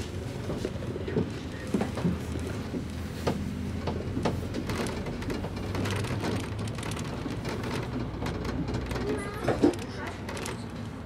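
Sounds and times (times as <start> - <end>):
bus engine hum: 0.0 - 11.0
road noise: 0.0 - 11.0.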